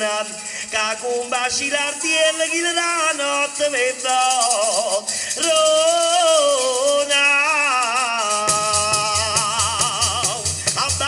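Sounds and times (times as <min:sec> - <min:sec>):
shaker rattling: 0:00.0 - 0:11.0.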